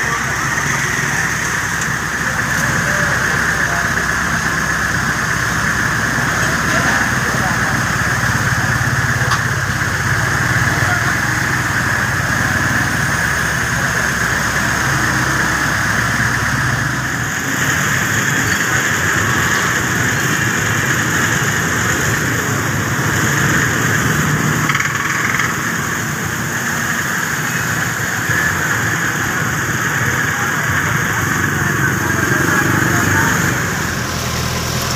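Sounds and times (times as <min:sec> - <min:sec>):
motorcycle engines running: 0:00.0 - 0:34.9.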